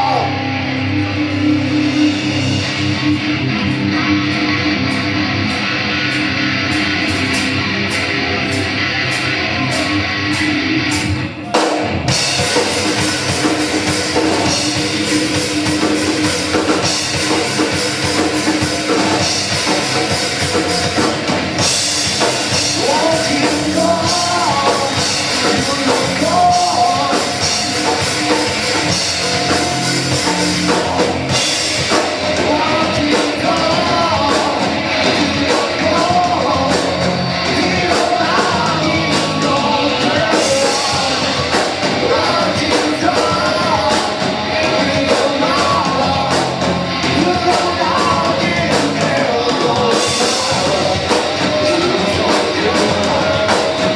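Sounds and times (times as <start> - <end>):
live rock band playing: 0.0 - 53.9
person singing: 0.0 - 53.9.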